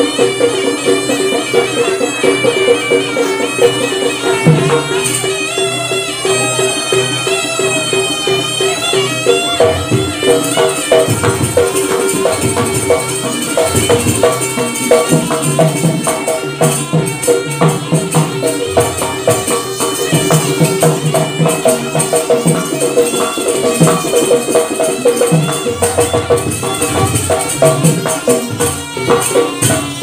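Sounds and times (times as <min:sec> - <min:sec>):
gamelan music: 0:00.0 - 0:30.0.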